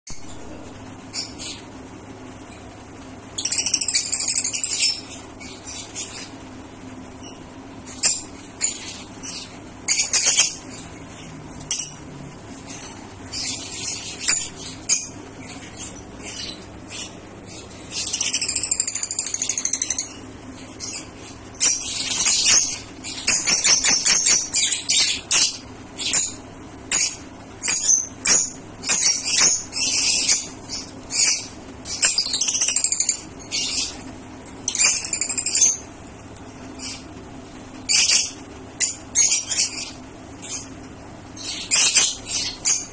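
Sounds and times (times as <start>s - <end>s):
faint low hum: 0.1s - 42.9s
lovebirds chirping and squeaking: 0.1s - 42.9s.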